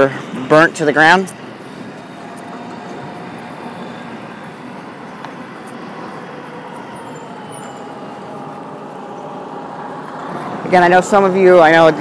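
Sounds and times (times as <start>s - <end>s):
vehicles driving past: 0.0s - 12.0s.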